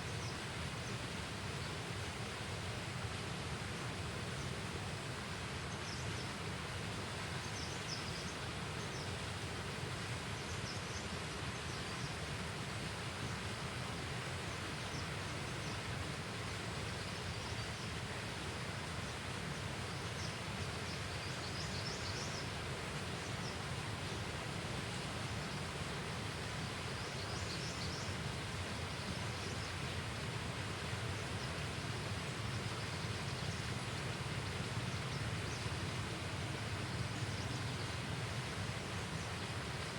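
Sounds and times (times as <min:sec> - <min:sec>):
rushing outdoor hiss: 0:00.0 - 0:39.9.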